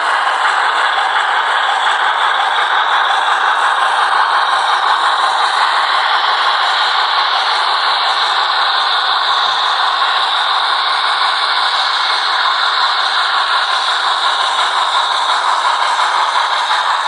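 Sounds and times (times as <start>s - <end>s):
model train rattling on track: 0.0s - 17.0s
rushing steam sound from speaker: 0.0s - 17.0s.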